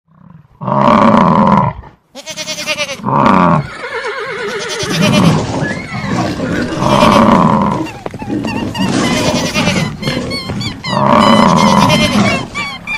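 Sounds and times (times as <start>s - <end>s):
bleating call: 2.2s - 12.9s
farm animal calls: 2.2s - 12.9s.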